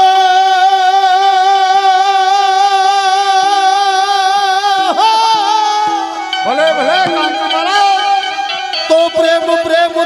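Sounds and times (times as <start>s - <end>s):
person singing a long note: 0.0s - 10.0s.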